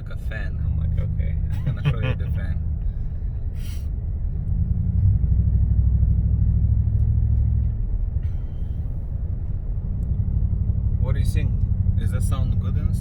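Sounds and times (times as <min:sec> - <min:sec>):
deep exhaust rumble: 0:00.0 - 0:13.0.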